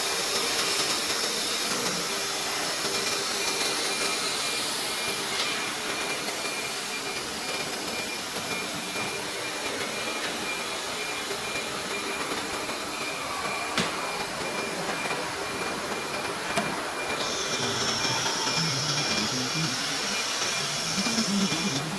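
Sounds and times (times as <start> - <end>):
cnc router running: 0.0 - 21.9.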